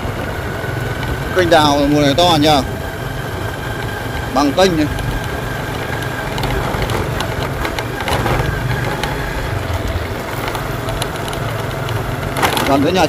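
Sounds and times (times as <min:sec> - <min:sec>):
motorbike engine running: 0:00.0 - 0:13.0
road noise: 0:00.0 - 0:13.0.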